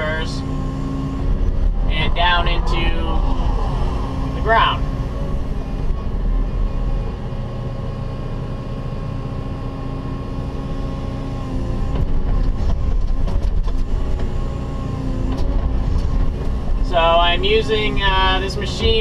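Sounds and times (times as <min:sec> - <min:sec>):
excavator engine and hydraulics: 0:00.0 - 0:19.0.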